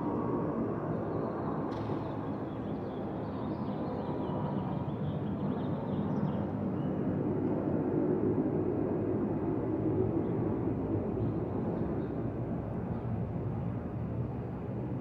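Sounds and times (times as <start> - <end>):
jet engines rumbling overhead: 0.0 - 15.0.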